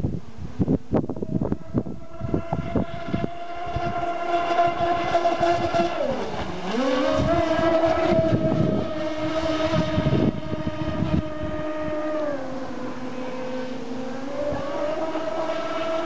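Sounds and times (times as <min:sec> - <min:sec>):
model speedboat motors whining: 0:00.2 - 0:16.0.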